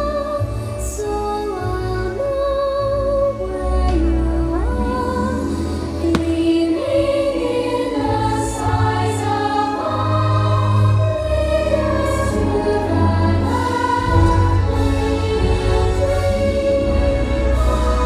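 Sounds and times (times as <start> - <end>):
orchestral music over loudspeakers: 0.0 - 18.0
choir singing long held notes: 2.8 - 18.0.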